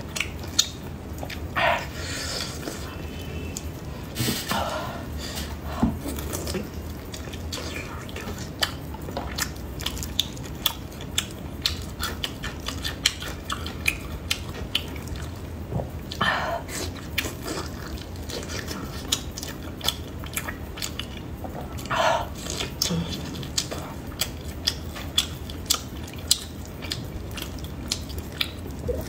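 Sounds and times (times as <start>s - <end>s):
close-up wet chewing: 0.0s - 4.6s, 5.5s - 29.0s.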